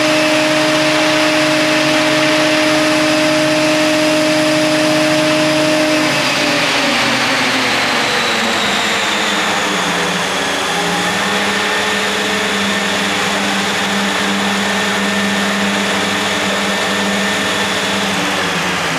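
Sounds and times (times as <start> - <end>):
model helicopter rotor whine: 0.0 - 18.9.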